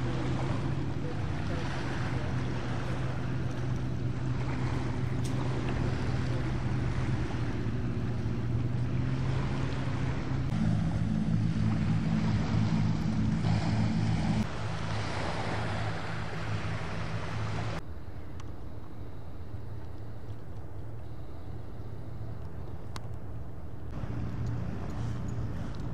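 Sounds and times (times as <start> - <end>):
boat engines droning: 0.0 - 25.9.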